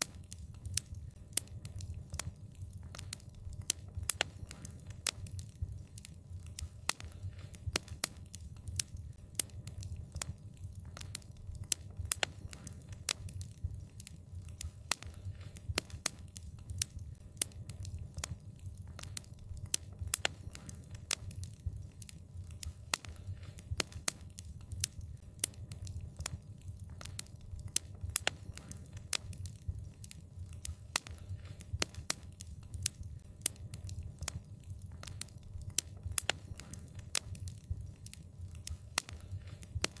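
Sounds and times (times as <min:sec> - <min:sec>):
fire crackling: 0:00.0 - 0:40.0
low rumble of burning: 0:00.0 - 0:40.0.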